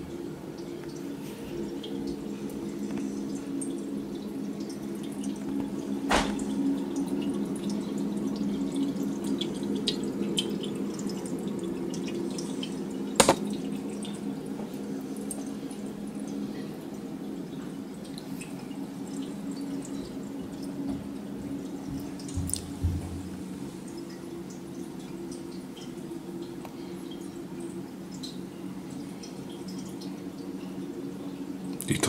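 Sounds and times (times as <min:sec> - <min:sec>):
steady low hum: 0:00.0 - 0:32.0
water dripping and trickling: 0:00.0 - 0:32.0.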